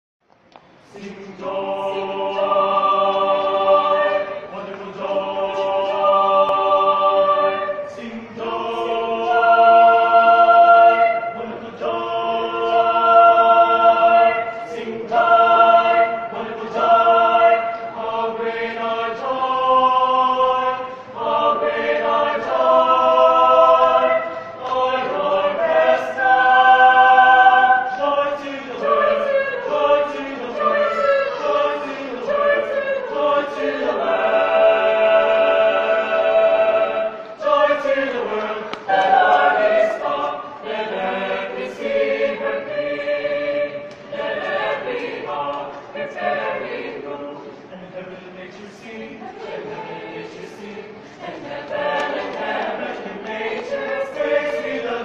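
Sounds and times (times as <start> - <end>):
choir singing sustained chords: 0.8 - 55.0.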